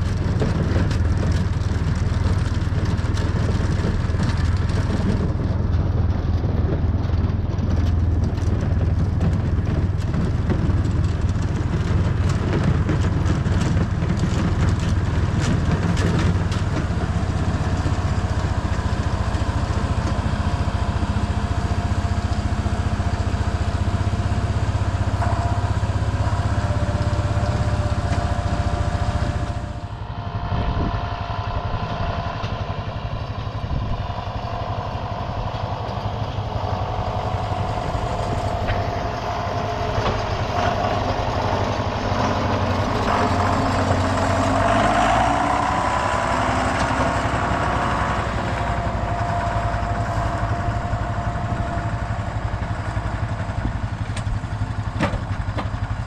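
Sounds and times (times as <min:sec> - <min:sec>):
rattles and knocks: 0:00.0 - 0:30.0, 0:32.4 - 0:56.0
four-wheeler engine running: 0:00.0 - 0:56.0.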